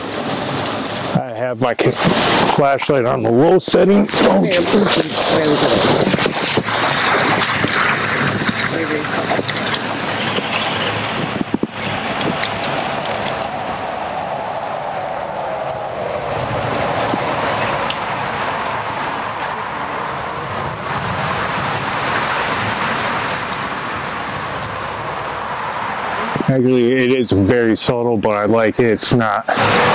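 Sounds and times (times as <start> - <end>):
waterfall rushing: 0.0 - 26.5, 29.4 - 29.9.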